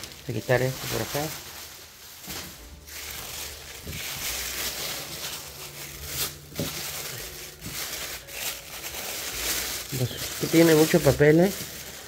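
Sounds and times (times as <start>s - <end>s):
plastic and tissue paper crinkling: 0.0s - 12.0s.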